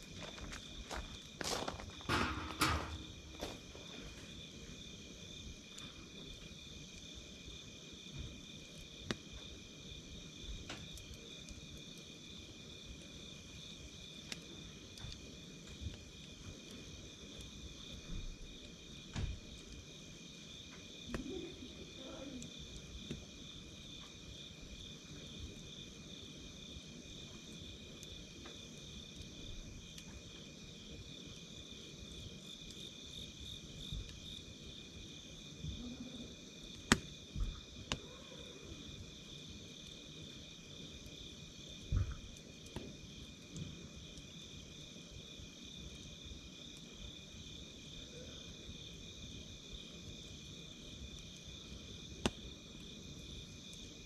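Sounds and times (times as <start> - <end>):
campfire crackling pops: 0.0 - 48.0, 48.9 - 54.0
night insects chirping: 0.0 - 54.0.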